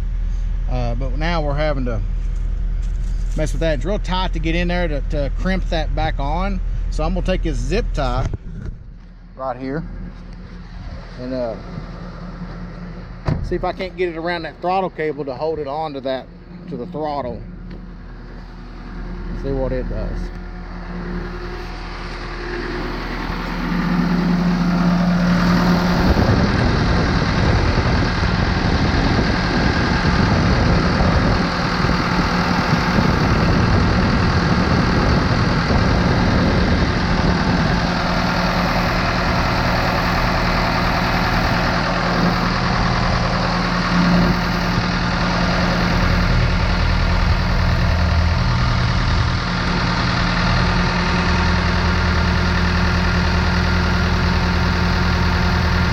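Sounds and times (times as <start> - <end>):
concrete pump engine running: 0.0 - 55.9.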